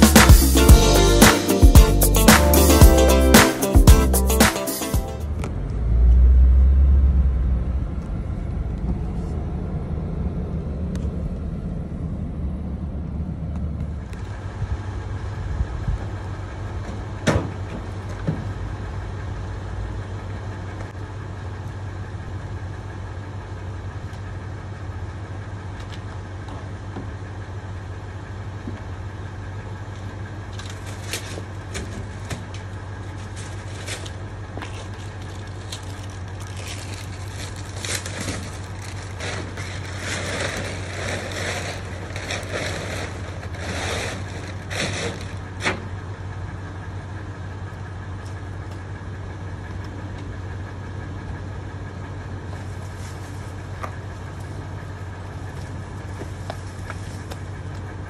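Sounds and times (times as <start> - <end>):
truck engine idling: 0.0 - 58.0
car driving rumble: 5.2 - 58.0.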